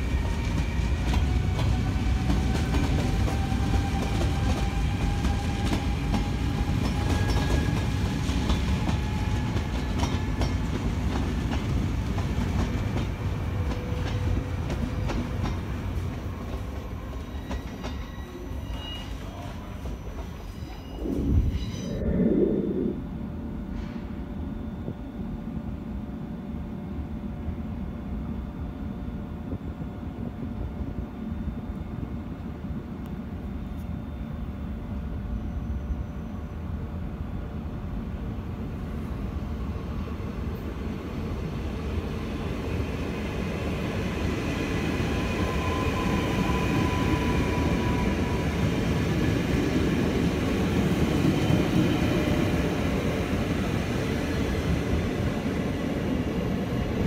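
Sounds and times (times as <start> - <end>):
electric train rumble: 0.0 - 18.7, 19.7 - 57.0
faint train whine: 0.0 - 57.0.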